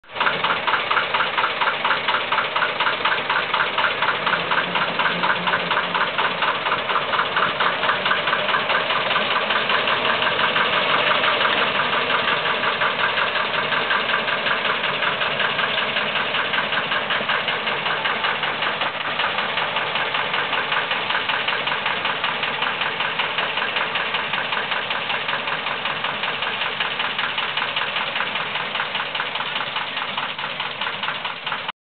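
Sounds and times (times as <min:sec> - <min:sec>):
locomotive diesel engine chugging: 0:00.0 - 0:31.7.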